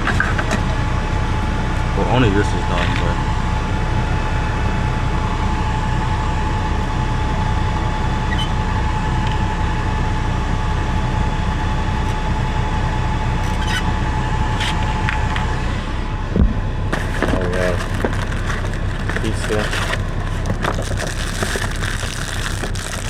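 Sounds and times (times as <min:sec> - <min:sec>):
diesel engine idling: 0:00.0 - 0:23.0
high whine: 0:00.0 - 0:23.0.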